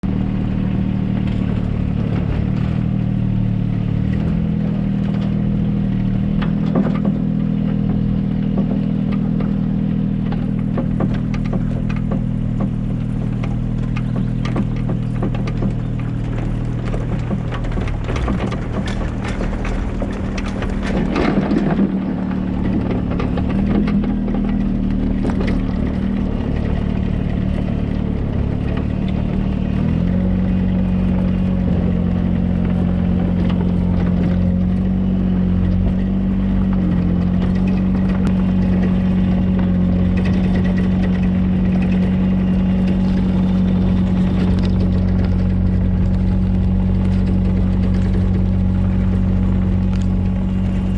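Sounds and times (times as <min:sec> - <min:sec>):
excavator engine running: 0:00.0 - 0:50.9
metal clanking and clatter: 0:01.0 - 0:50.9.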